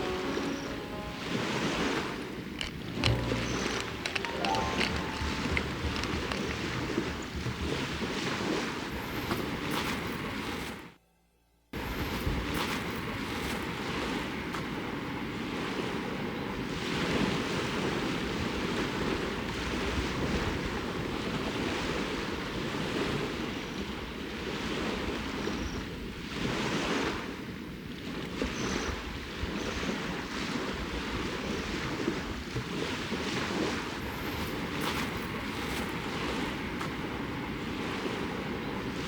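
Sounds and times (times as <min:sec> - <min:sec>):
waves washing onto shore: 0:00.0 - 0:11.0, 0:11.8 - 0:39.0
wind: 0:00.0 - 0:11.0, 0:11.7 - 0:39.0.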